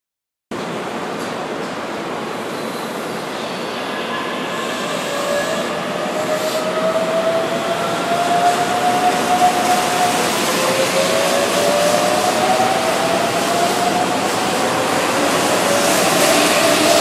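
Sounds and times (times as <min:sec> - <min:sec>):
train running noise: 0:00.6 - 0:17.0.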